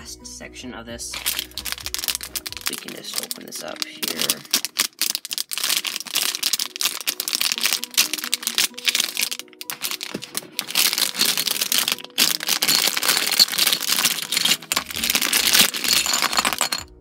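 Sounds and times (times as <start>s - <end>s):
plastic bag crinkling: 1.2s - 16.9s
plastic bricks taken out: 1.2s - 17.0s.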